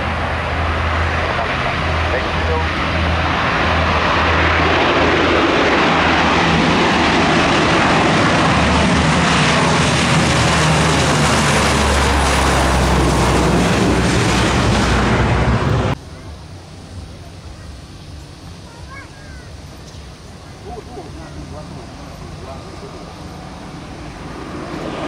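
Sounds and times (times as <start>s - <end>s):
low propeller hum: 0.0s - 25.0s
turboprop aircraft taking off: 0.0s - 25.0s.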